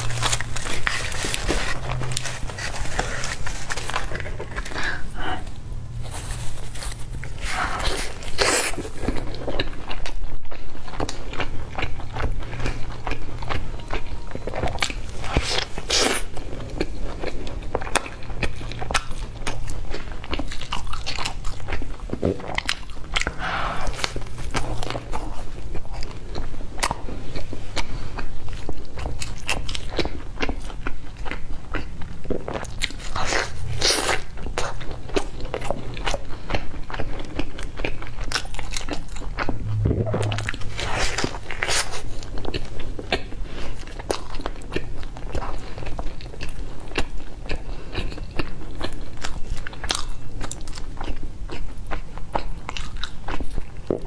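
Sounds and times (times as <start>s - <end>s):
chewing crunchy pizza crust: 0.0s - 54.0s.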